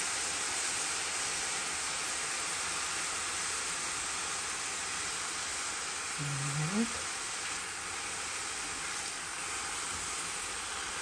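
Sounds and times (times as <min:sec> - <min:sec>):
mushrooms and onions sizzling in oil: 0:00.0 - 0:11.0.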